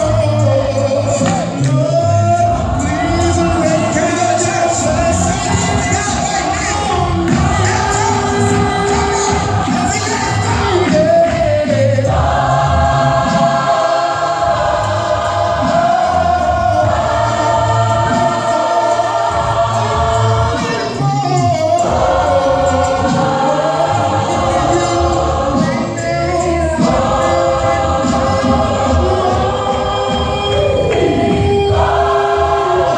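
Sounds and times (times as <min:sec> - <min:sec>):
gospel choir singing: 0:00.0 - 0:32.9.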